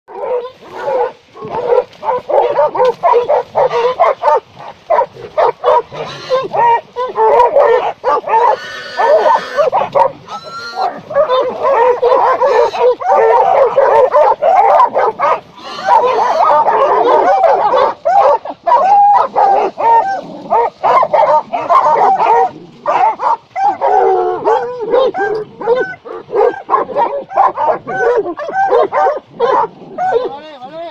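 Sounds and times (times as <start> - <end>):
dogs barking and yelping: 0.1 - 30.5.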